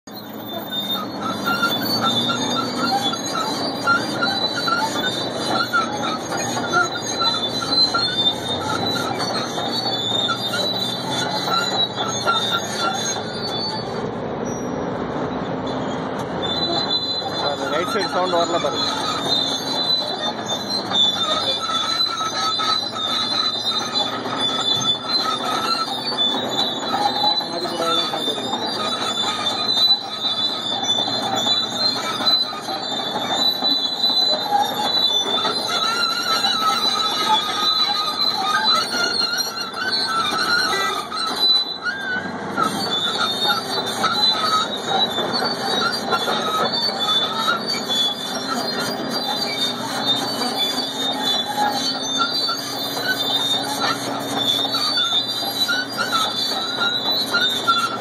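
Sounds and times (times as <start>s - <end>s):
metallic squeal of tracks: 0.0s - 58.0s
diesel engine running: 0.1s - 58.0s.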